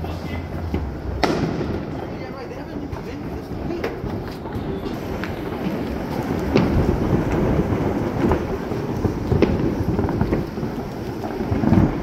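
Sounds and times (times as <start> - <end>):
fireworks booming: 0.0 - 12.0
fireworks sharp pops: 0.0 - 12.0.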